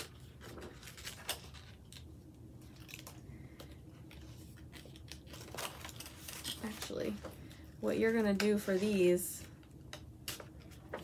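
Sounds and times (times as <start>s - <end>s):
paper crinkling and rustling: 0.0s - 9.1s, 9.9s - 11.0s.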